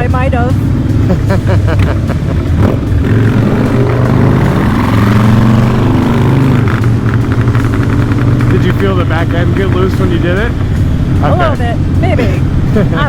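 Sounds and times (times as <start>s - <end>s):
motorcycles running loud: 0.0s - 13.0s.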